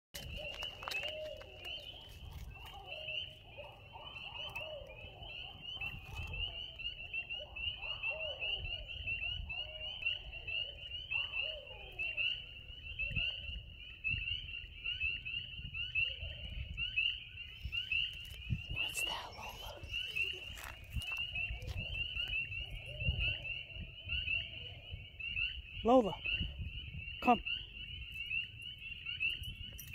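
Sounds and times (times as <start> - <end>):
peeping frogs chorus: 0.2 - 29.9.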